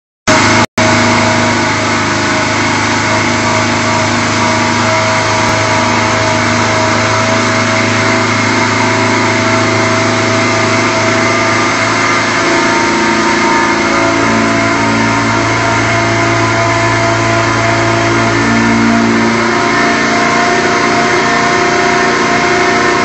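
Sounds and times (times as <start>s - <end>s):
loud engine running on dyno: 0.3s - 23.0s.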